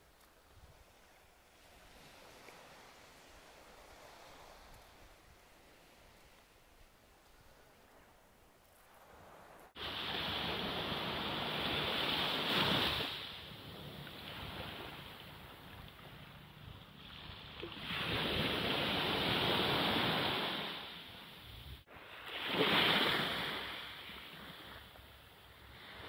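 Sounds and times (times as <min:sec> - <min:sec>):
small waves washing on sand: 0:00.0 - 0:08.3, 0:08.9 - 0:26.0.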